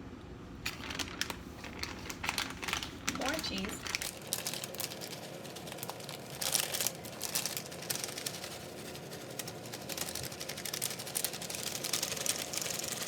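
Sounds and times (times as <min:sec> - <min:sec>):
plastic packaging crinkling: 0:00.6 - 0:13.0.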